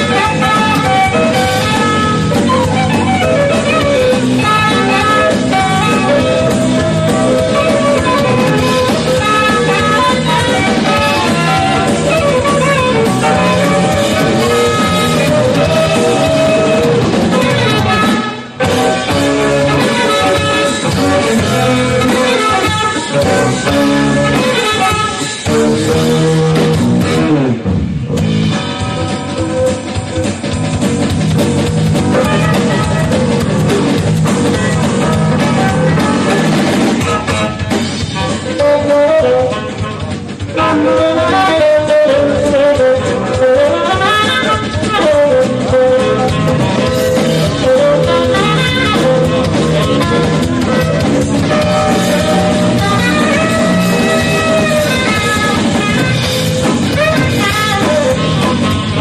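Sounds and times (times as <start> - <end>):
electric guitar: 0.0 - 59.0
instrumental rock band: 0.0 - 59.0.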